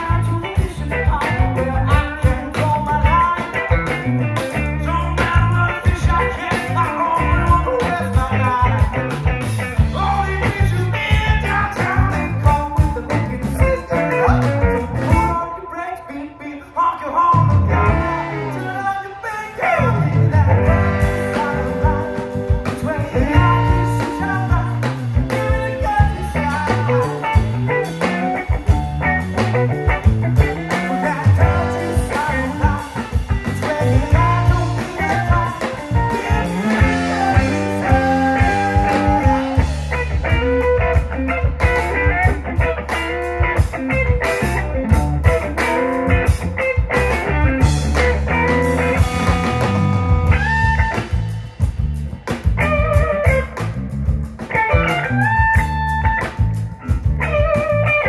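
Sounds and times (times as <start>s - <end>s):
drum kit: 0.0s - 15.6s, 17.2s - 58.0s
bass: 0.0s - 58.0s
electric guitar: 0.0s - 58.0s.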